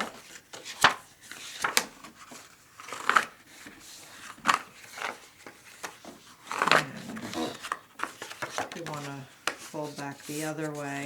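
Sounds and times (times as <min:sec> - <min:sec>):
cardstock crackling as folded: 0:00.0 - 0:11.0
paper rustling: 0:00.0 - 0:11.0.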